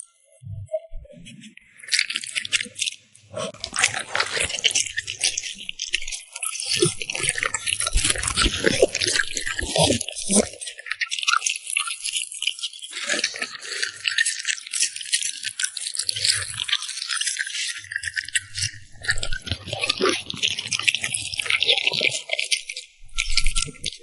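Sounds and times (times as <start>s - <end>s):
dog crunching food: 1.9s - 24.0s.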